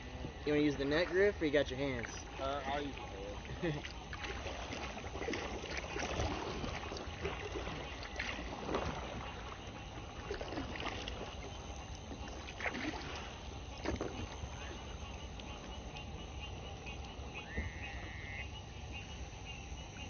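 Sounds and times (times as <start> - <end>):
paddle splashes: 0.0 - 19.1.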